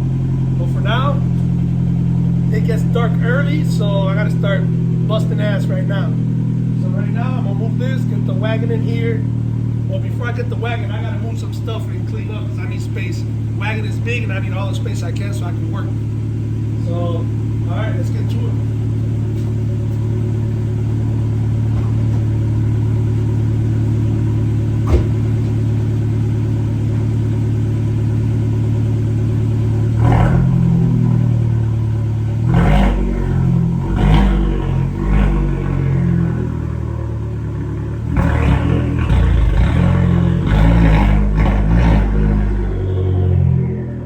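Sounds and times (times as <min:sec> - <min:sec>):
car engine idling and surging: 0:00.0 - 0:44.0.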